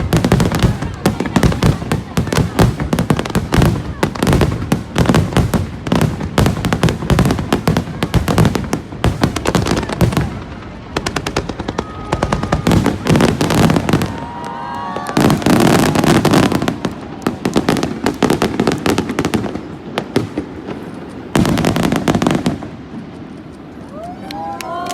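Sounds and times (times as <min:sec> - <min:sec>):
fireworks bangs and crackling: 0:00.0 - 0:24.5.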